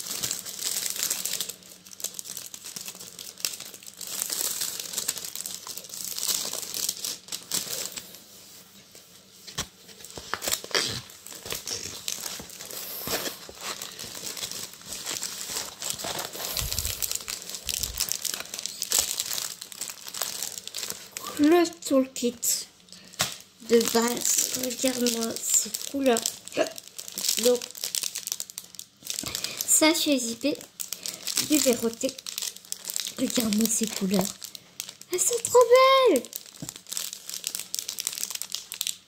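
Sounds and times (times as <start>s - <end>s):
plastic packaging crinkling: 0.0s - 39.0s.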